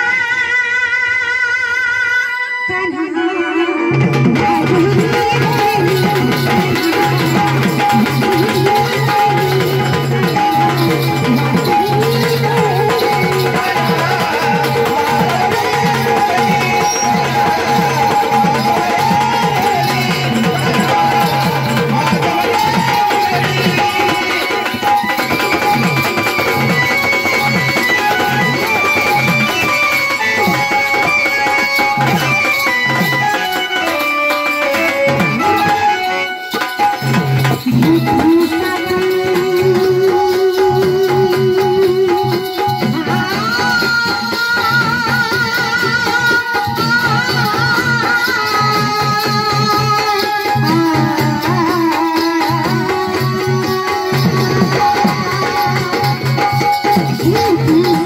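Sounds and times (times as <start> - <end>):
instrumental melody line: 0.0 - 58.0
hand drum rhythm: 3.9 - 58.0
rattling percussion: 3.9 - 58.0.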